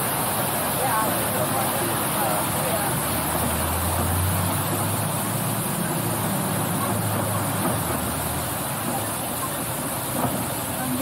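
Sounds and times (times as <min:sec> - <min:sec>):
road and wind noise: 0:00.0 - 0:11.0
truck engine hum: 0:00.0 - 0:11.0.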